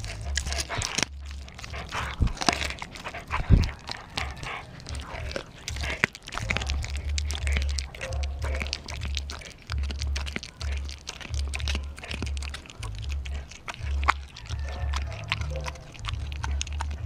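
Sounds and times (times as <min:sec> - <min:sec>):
dog crunching bone: 0:00.0 - 0:17.0
wet mouth sounds: 0:00.0 - 0:17.0.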